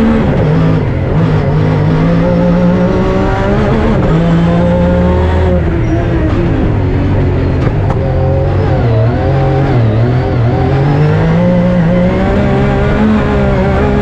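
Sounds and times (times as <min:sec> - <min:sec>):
car engine revving through gears: 0:00.0 - 0:14.0.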